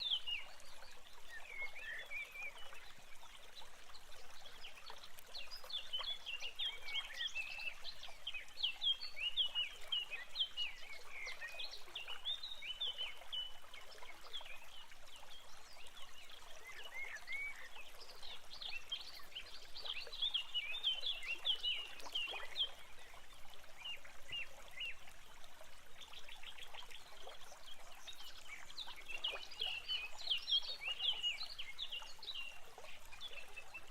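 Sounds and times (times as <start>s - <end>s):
trickling water: 0.0s - 33.9s.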